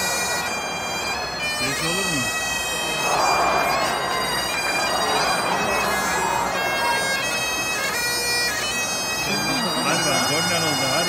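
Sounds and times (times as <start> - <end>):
stadium crowd din: 0.0 - 11.0.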